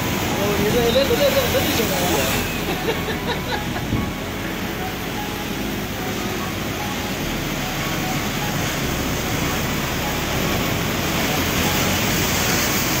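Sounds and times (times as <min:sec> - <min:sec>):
heavy surf breaking: 0:00.0 - 0:13.0.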